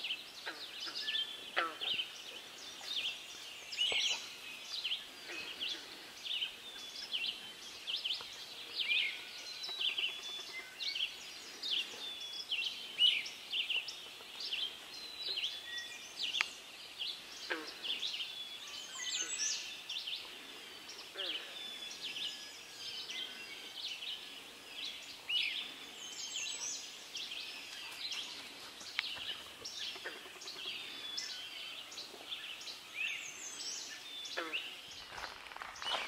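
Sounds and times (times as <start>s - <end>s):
songbirds chirping and whistling: 0.0s - 36.0s.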